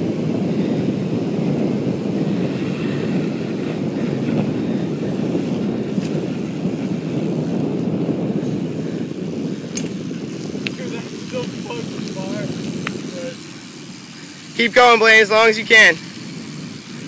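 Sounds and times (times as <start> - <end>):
road rumble: 0.0 - 17.0
wind rush on microphone: 0.0 - 17.0.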